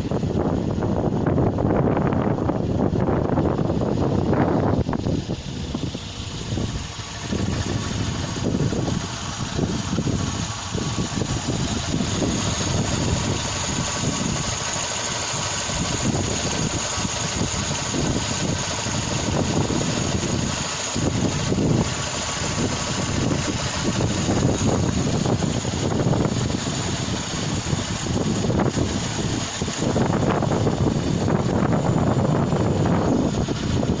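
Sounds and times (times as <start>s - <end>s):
petrol engine running: 0.0s - 34.0s.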